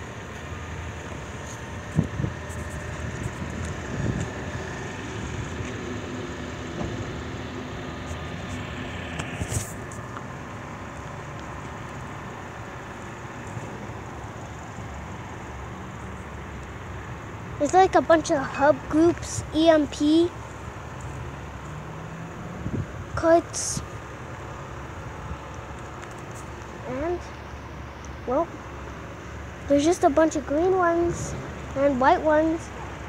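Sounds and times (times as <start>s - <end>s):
outdoor noise: 0.0s - 33.0s
steady mechanical hum: 0.0s - 33.0s.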